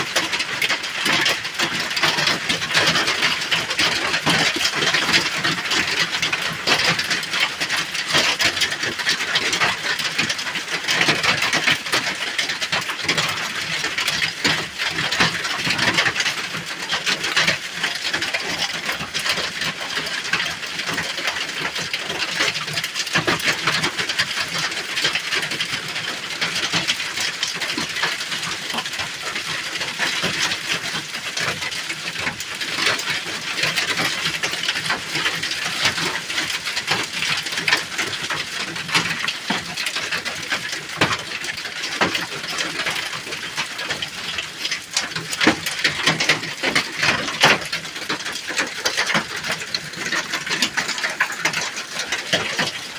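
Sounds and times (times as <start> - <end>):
hail pounding on a roof: 0.0 - 52.9.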